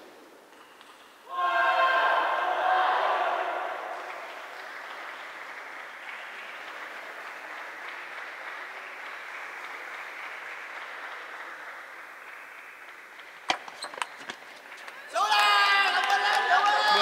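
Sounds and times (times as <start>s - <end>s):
applause-like noise in hall: 2.6s - 17.0s.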